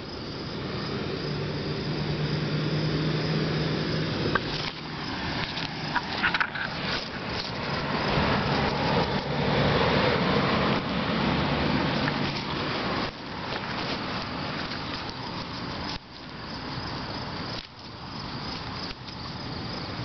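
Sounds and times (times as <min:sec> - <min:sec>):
broad rushing noise: 0:00.0 - 0:17.7
vehicle engine humming: 0:00.0 - 0:20.0.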